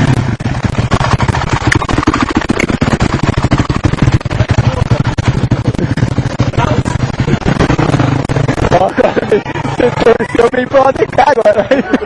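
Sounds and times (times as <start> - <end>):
motorcycle engine popping: 0.0 - 12.0.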